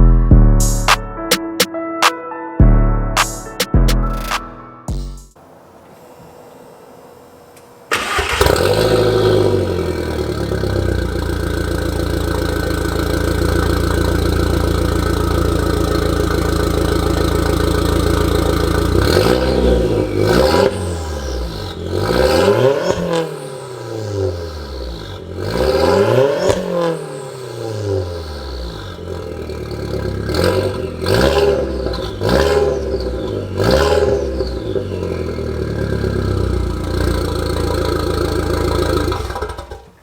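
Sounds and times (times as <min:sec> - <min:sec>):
car engine idling: 0:05.4 - 0:25.6, 0:26.8 - 0:40.0
car engine starting: 0:05.4 - 0:40.0
engine revving: 0:07.9 - 0:40.0.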